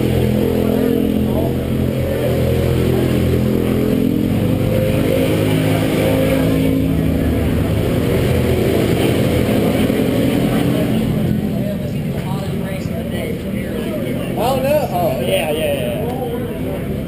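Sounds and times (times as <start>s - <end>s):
kart engines idling: 0.0s - 17.0s.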